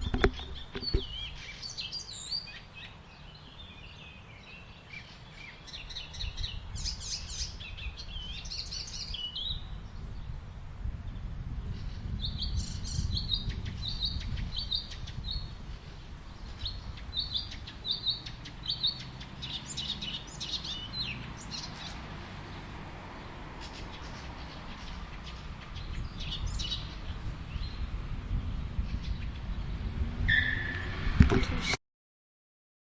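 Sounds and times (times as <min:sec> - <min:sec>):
birds chirping and calling: 0:00.0 - 0:10.3, 0:11.1 - 0:22.7, 0:23.5 - 0:31.0.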